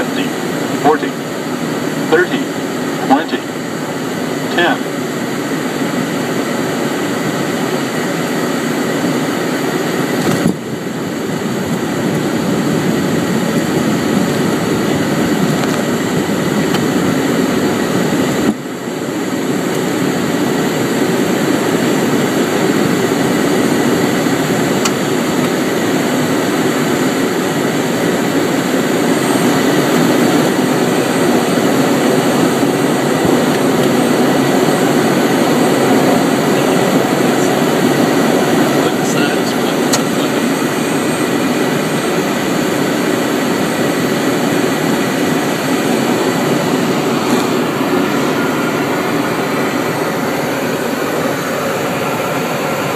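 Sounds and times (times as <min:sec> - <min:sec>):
jet engines rushing with whine: 0:00.0 - 0:52.9.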